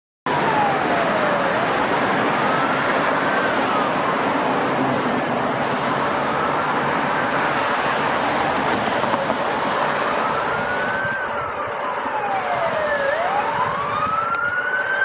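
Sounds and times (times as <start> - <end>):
distant ambulance siren wailing: 0.3 - 15.0
road traffic passing: 0.3 - 15.0.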